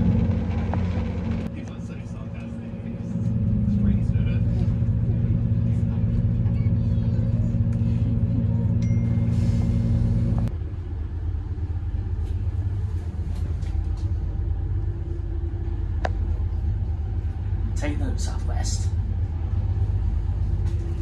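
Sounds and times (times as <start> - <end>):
train diesel engine droning: 0.0 - 21.0
train running rumble: 0.0 - 21.0.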